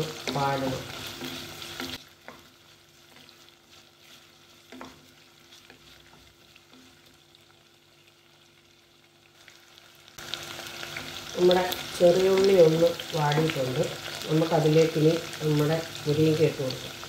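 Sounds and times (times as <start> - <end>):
vegetables frying in oil: 0.0 - 17.0.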